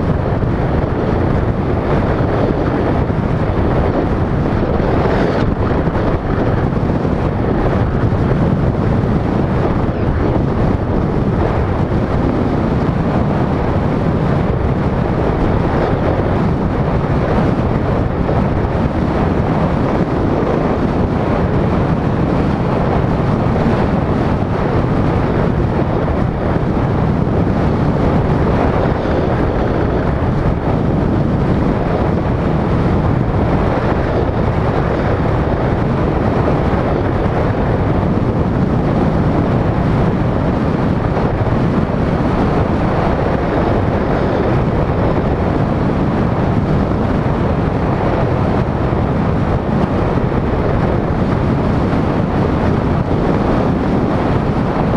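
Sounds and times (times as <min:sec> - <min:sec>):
road and tyre noise: 0:00.0 - 0:54.9
wind rushing over microphone: 0:00.0 - 0:54.9.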